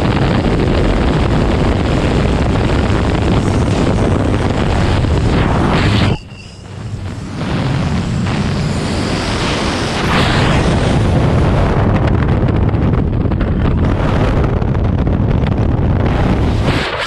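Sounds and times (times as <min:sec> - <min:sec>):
rushing wind on microphone: 0:00.0 - 0:17.0.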